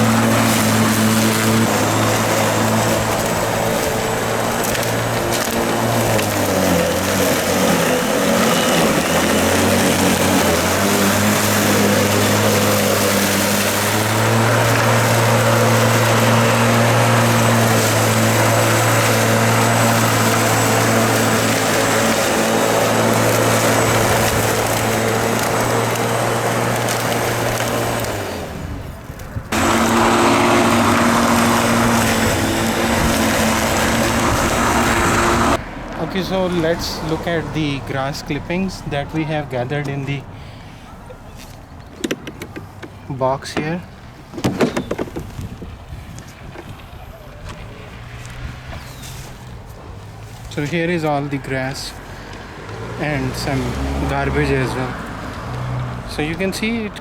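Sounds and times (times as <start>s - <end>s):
electric lawn mower cutting grass: 0.0s - 40.4s, 43.9s - 57.0s.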